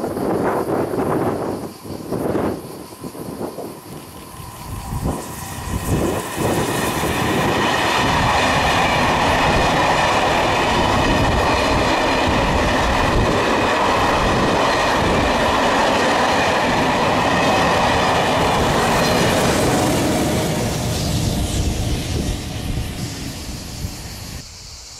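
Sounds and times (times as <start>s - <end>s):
passenger train passing: 0.0s - 24.9s.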